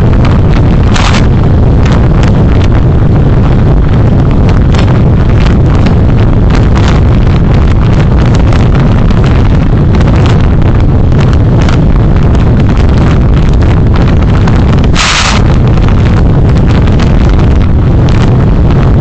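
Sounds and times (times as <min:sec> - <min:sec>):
road and wind rumble: 0:00.0 - 0:19.0.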